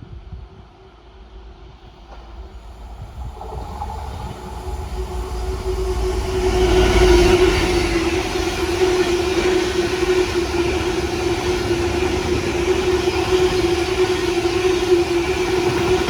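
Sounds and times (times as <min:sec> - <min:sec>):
train rumble and hiss: 0:00.0 - 0:16.0
diesel train engine: 0:00.1 - 0:16.0.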